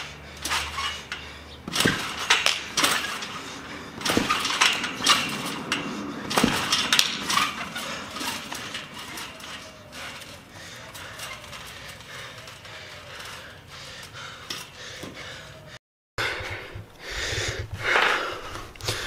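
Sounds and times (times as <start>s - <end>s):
trampoline springs thumping and jangling: 0.0s - 15.3s.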